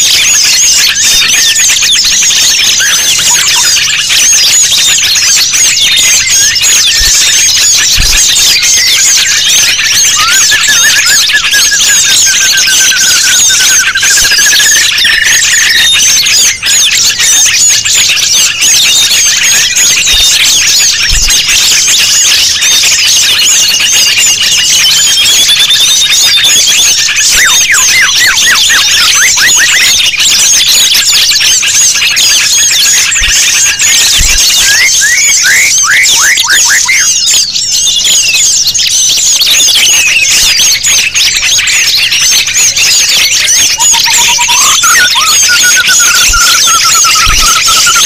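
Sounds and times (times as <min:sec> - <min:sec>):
songbirds chirping and twittering: 0:00.0 - 0:48.0
wavering whistled trill: 0:00.0 - 0:48.0.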